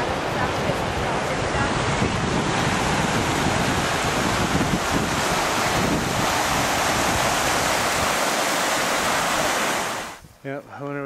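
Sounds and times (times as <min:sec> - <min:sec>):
creek rushing over rocks: 0:00.0 - 0:10.2
wind buffeting microphone: 0:00.0 - 0:10.4.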